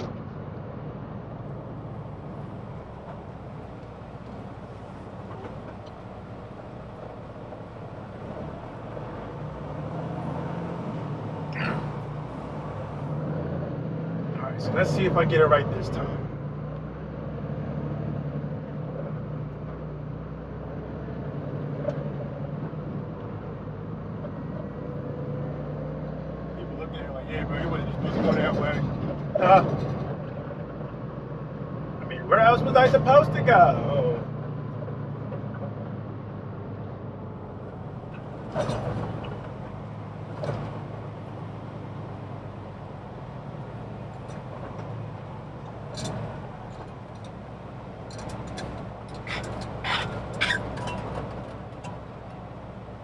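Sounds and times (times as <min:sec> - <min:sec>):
diesel truck engine running: 0:00.0 - 0:21.2, 0:22.1 - 0:53.0
road noise: 0:00.0 - 0:53.0.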